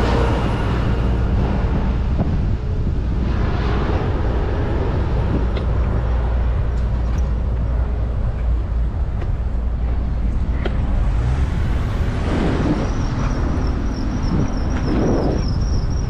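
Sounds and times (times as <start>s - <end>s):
street traffic: 0.0s - 16.0s
wind noise on microphone: 0.0s - 16.0s.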